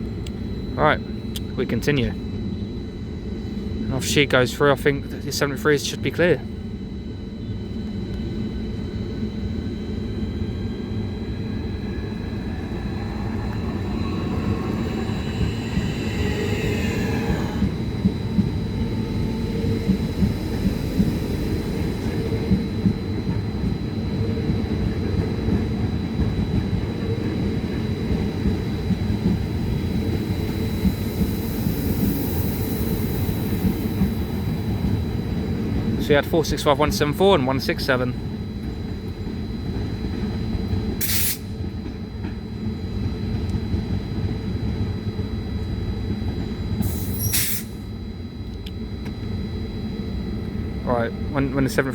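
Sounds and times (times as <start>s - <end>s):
train rumble: 0.0s - 51.9s
electric train motor whine: 5.6s - 51.9s.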